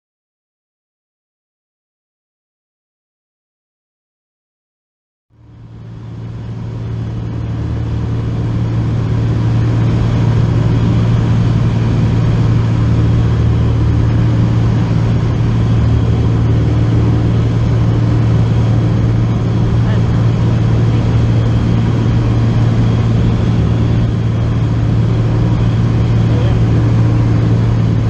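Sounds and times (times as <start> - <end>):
propeller plane engine droning: 5.3 - 28.0.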